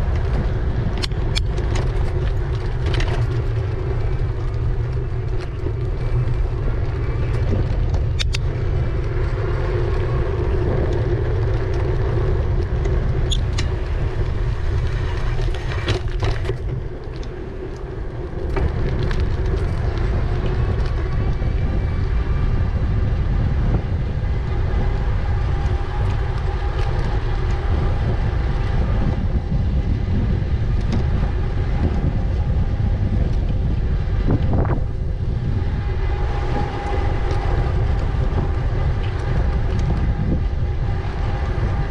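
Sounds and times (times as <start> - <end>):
steady low hum: 0.0 - 41.9
wind rumble on microphone: 0.0 - 41.9.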